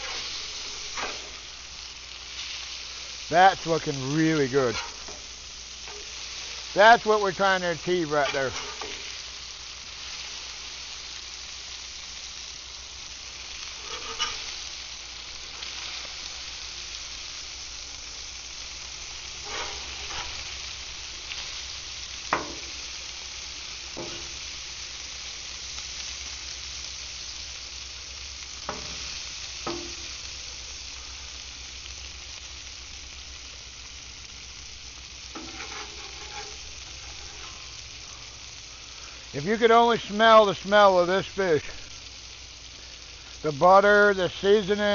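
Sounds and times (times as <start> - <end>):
fish sizzling in butter: 0.0 - 44.9.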